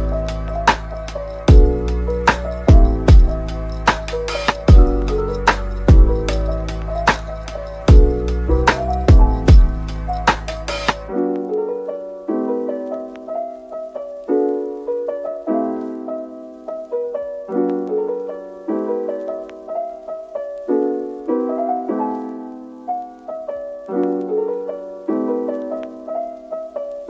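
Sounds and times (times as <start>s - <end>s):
gentle piano chords: 0.0s - 27.0s.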